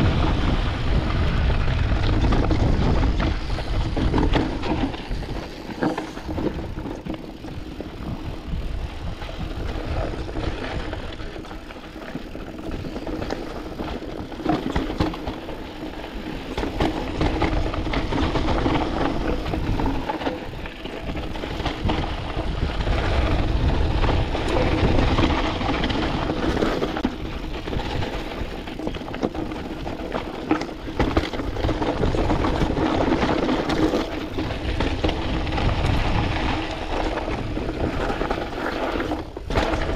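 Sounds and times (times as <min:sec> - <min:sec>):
bike rattling and knocking: 0:00.0 - 0:39.9
bike tyres on dirt and stones: 0:00.0 - 0:39.9.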